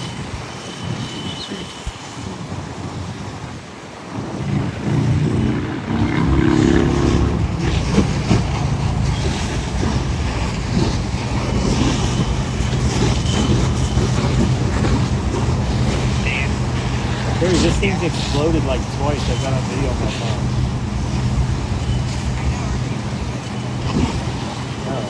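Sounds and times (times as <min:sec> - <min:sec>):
rushing noise: 0:00.0 - 0:25.0
vehicle engine running: 0:04.8 - 0:25.0.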